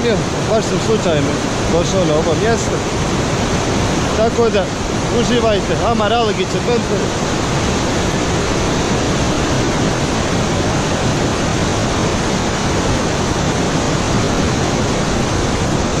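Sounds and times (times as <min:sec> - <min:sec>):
river rapids rushing: 0:00.0 - 0:16.0.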